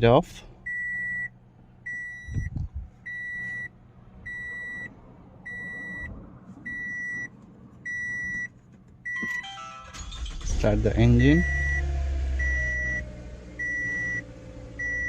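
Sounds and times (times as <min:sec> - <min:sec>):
car warning chime beeping: 0:00.6 - 0:04.9, 0:05.5 - 0:06.1, 0:06.7 - 0:07.3, 0:07.9 - 0:15.0.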